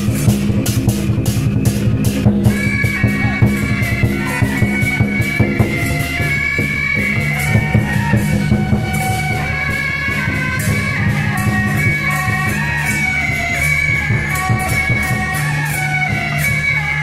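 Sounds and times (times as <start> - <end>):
drum and cymbal beats: 0.0 - 17.0
reedy wind instrument melody: 0.0 - 17.0.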